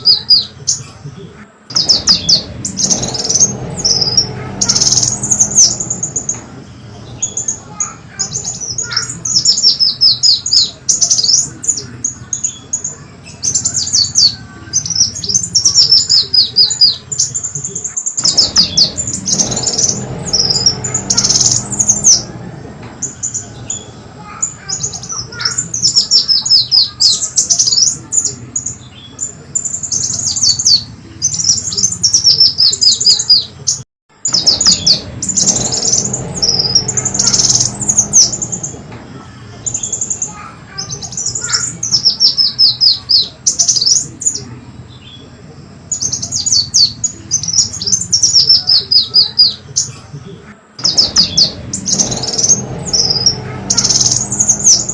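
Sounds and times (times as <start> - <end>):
high-pitched bird chirps: 1.7 - 22.4, 23.0 - 38.8, 39.6 - 45.2, 45.9 - 49.9, 50.8 - 54.9.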